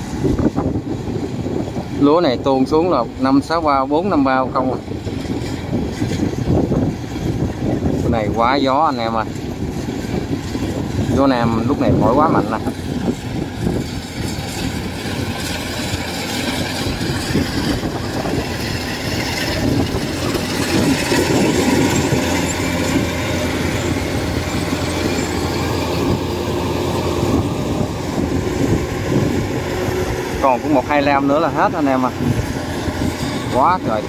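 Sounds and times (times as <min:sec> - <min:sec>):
combine harvester engine droning: 0:00.0 - 0:34.0
wind on microphone: 0:00.0 - 0:34.0.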